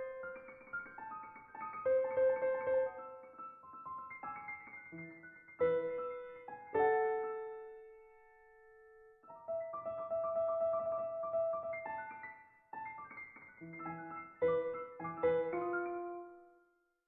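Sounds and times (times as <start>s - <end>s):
solo piano music: 0.0s - 16.7s.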